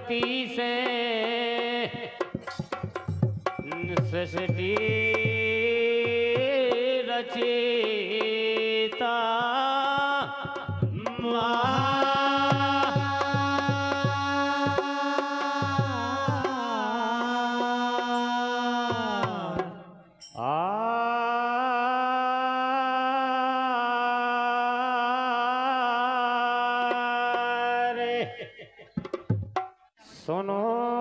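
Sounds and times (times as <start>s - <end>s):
man singing long held notes: 3.6s - 28.8s, 30.0s - 31.0s.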